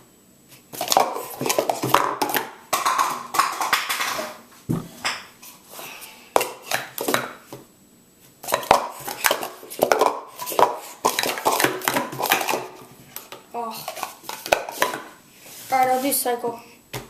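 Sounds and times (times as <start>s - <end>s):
plastic cups clacking and sliding: 0.6s - 7.6s, 8.4s - 16.4s.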